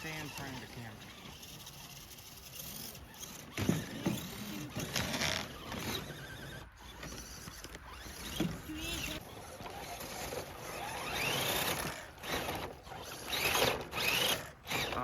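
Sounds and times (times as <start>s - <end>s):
small electric motors whirring: 0.0s - 15.0s.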